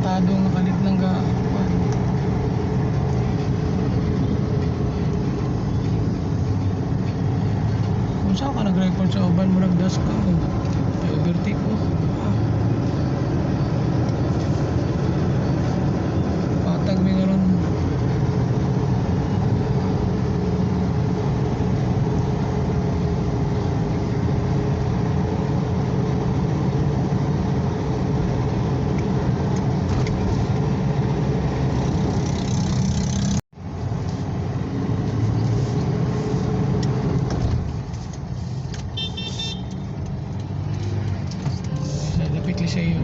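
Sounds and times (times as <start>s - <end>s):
engine and road noise: 0.0s - 43.0s.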